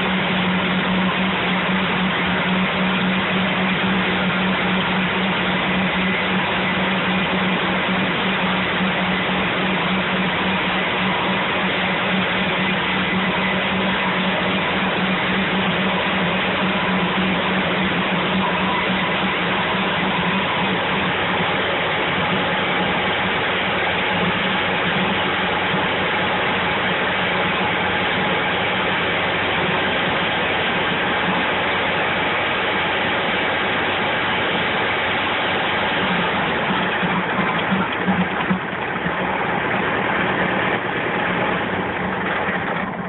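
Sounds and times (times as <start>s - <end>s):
stump grinder grinding wood: 0.0s - 43.0s
tractor engine hum: 0.0s - 43.0s.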